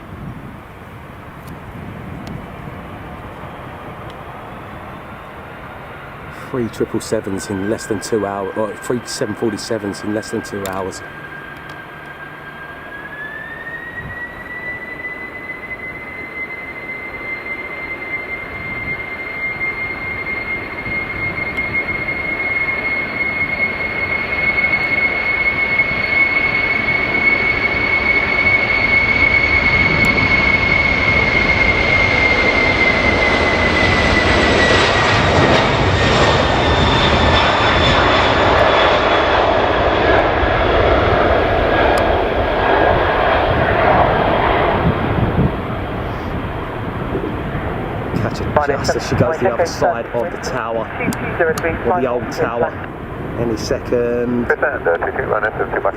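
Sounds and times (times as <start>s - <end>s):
jet engine rumble: 0.0s - 55.9s
jet engines high whine: 0.0s - 55.9s.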